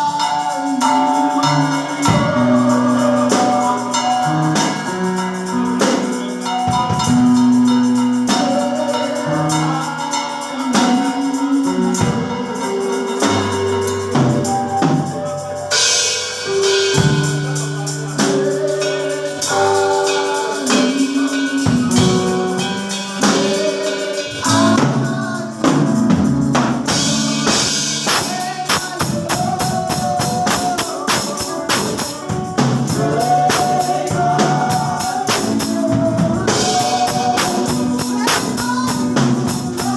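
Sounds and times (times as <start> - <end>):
singing: 0.0 - 15.5, 16.6 - 26.0, 26.9 - 39.9
drums: 0.0 - 39.9
keyboard chords: 0.0 - 39.9
tambourine: 0.0 - 39.9.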